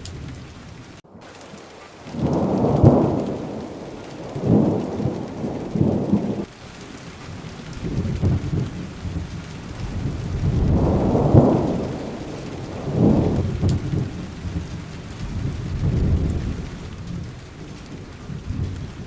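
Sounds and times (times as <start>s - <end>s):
rolling thunder: 0.0s - 6.5s, 7.2s - 19.0s
steady rain: 0.0s - 19.0s.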